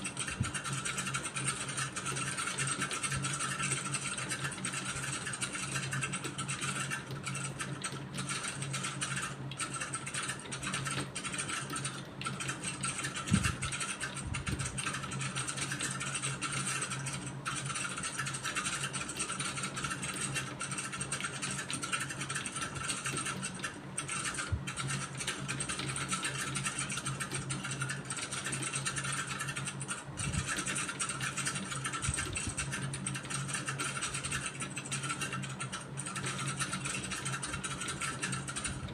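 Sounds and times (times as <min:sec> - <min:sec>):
computer keyboard typing: 0:00.0 - 0:38.9
steady low hum: 0:00.0 - 0:38.9.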